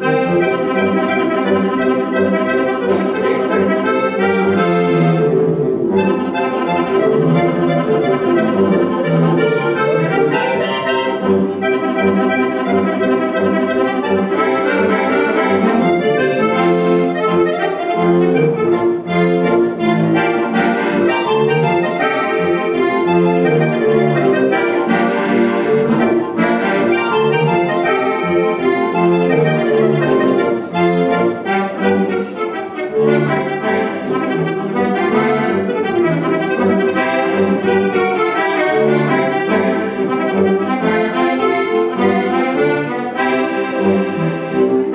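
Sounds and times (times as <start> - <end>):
button accordion folk tune: 0.0 - 44.9.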